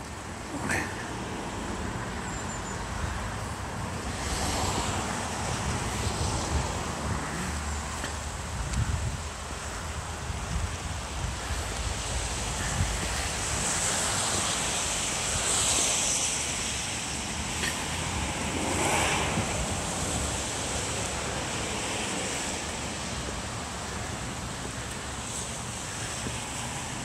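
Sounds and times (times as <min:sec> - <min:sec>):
wind buffeting microphone: 0:02.8 - 0:27.0.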